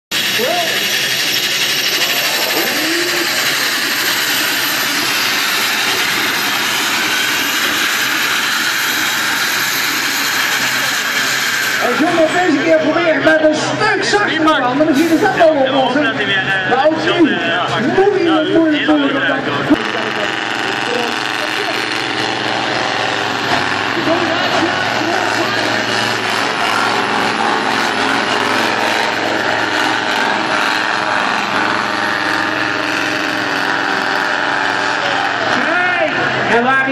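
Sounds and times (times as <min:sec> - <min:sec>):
tractor engine at full power: 0:00.1 - 0:36.9.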